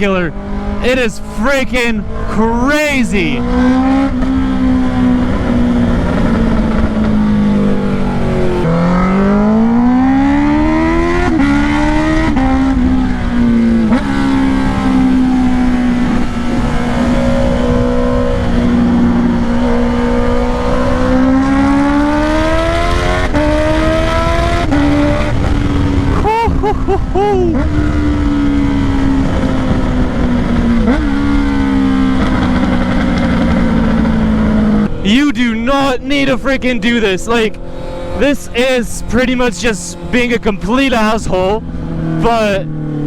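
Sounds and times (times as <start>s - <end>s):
loud motorcycle engine revving: 0.2s - 35.1s, 36.4s - 43.0s.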